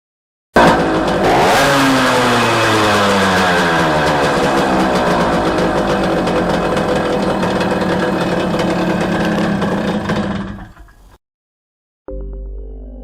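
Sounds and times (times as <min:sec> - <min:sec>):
small motorcycle engine: 0:00.6 - 0:11.2.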